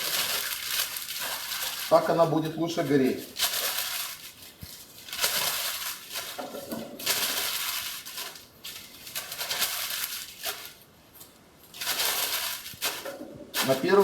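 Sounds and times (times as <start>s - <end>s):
paper being crumpled: 0.0s - 10.8s, 11.7s - 14.0s.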